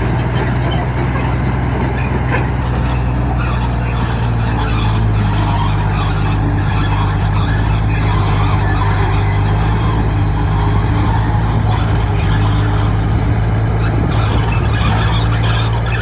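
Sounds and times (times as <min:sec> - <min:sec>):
large diesel engine running: 0:00.0 - 0:16.0.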